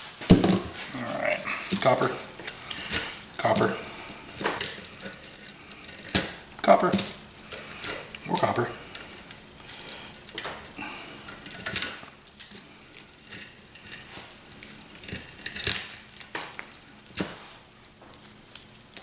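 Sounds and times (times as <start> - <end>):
copper wire clinking and scraping: 0.5 - 17.5.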